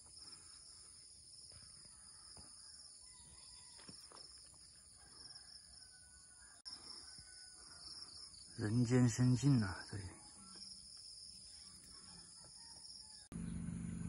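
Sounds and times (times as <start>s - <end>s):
high-pitched insect chorus: 0.0s - 13.3s.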